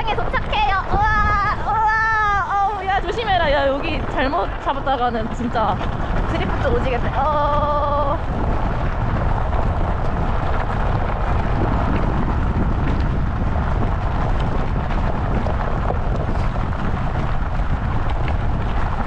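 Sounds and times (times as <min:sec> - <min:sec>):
cart wheels rumbling on course: 0:00.0 - 0:19.0
wind buffeting microphone: 0:00.0 - 0:19.0.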